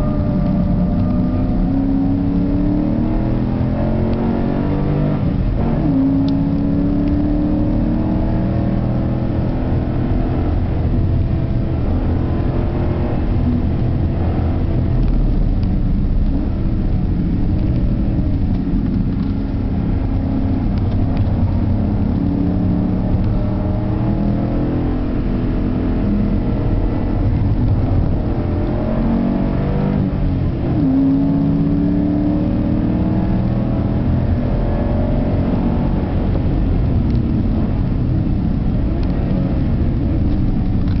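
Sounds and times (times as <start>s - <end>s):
car engine revving: 0.0s - 41.0s
road and wind rumble: 0.0s - 41.0s.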